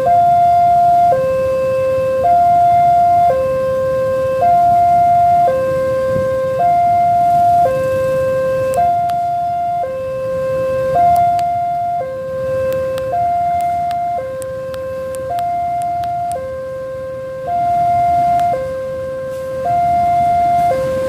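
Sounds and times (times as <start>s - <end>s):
level crossing two-tone alarm: 0.0s - 21.0s.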